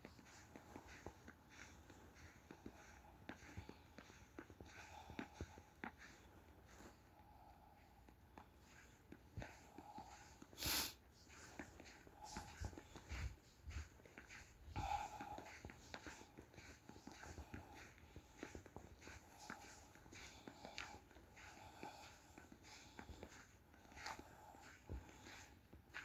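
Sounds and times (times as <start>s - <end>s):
quiet footsteps: 0.0s - 26.0s.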